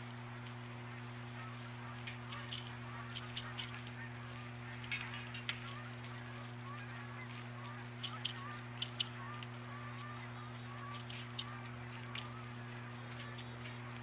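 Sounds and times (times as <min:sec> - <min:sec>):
low electrical hum: 0:00.0 - 0:14.0
sharp high bird calls: 0:00.9 - 0:14.0.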